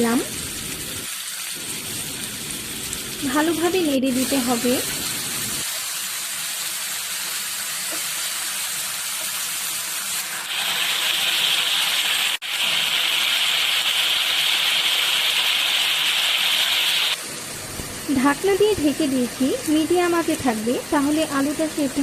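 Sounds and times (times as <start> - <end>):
potatoes sizzling in hot oil: 0.0 - 22.0.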